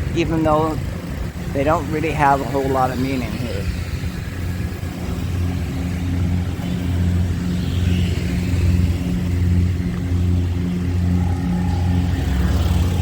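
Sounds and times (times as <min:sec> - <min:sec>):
city street traffic: 0:00.0 - 0:13.0
vehicle engine humming: 0:00.0 - 0:13.0.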